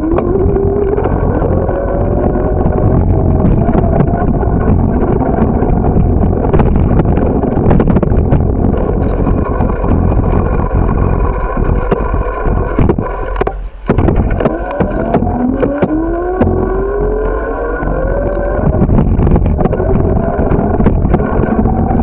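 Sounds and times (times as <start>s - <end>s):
bike rumbling over pavement: 0.0s - 22.0s
wind rushing over microphone: 0.0s - 22.0s.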